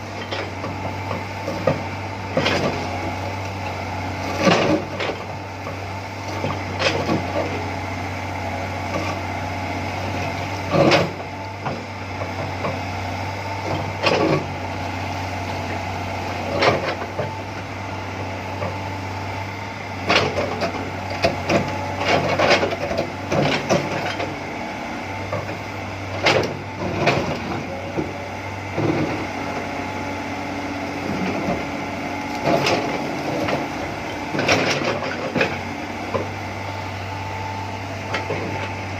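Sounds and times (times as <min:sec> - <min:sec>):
excavator engine humming: 0:00.0 - 0:38.9.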